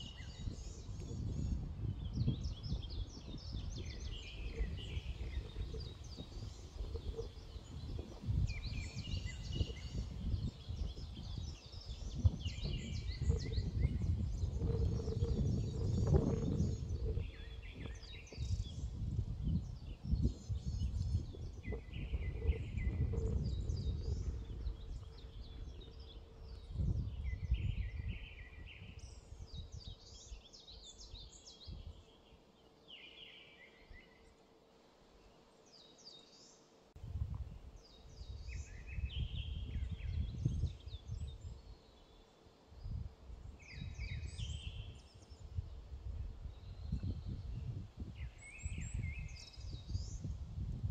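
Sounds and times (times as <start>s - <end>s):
wind rumbling on microphone: 0.0s - 34.4s, 37.0s - 50.9s.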